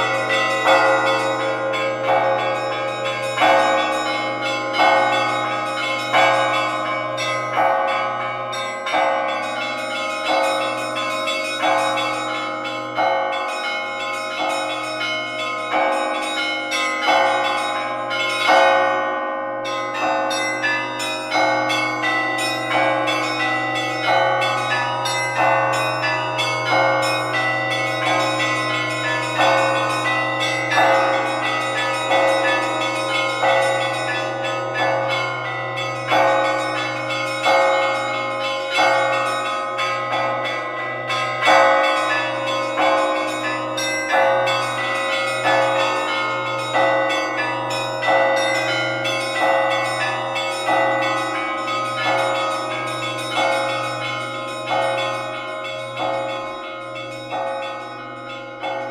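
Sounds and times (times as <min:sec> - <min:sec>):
church bells pealing: 0:00.0 - 0:58.9.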